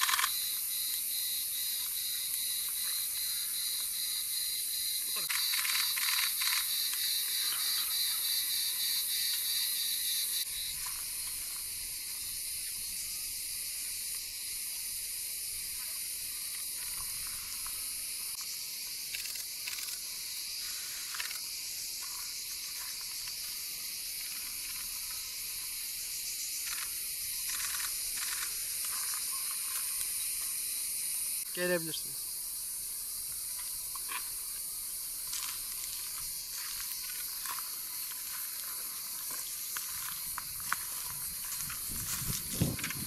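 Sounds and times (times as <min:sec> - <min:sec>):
cicadas buzzing: 0:00.0 - 0:43.0.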